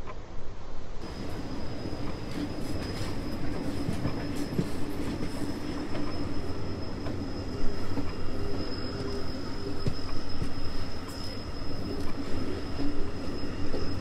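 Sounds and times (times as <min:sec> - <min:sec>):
train rumbling on rails: 0:00.0 - 0:14.0
high-pitched whine: 0:01.0 - 0:14.0.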